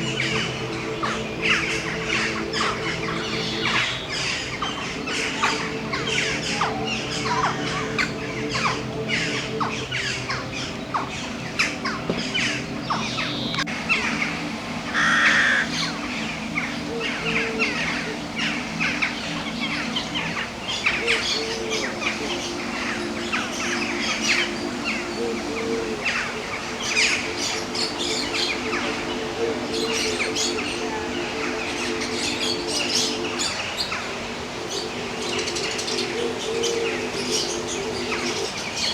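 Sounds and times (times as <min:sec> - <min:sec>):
birds chirping and squawking: 0:00.0 - 0:38.9.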